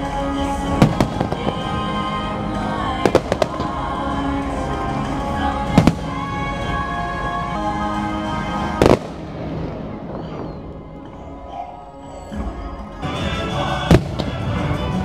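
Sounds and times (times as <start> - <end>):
show music: 0.0 - 15.0
fireworks bangs: 0.6 - 11.5, 13.0 - 14.8.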